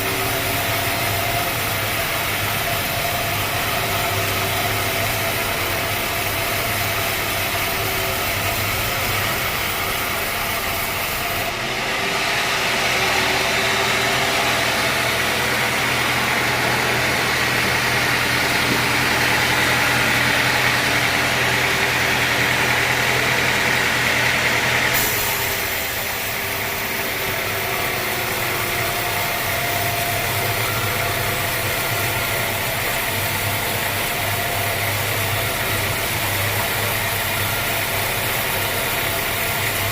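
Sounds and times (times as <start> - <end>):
high machine whine: 0.0 - 39.9
sawmill machinery engine hum: 0.0 - 39.9.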